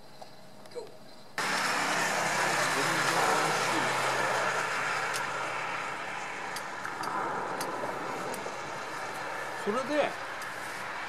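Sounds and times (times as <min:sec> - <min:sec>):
motor vehicle rush: 0:01.4 - 0:11.0.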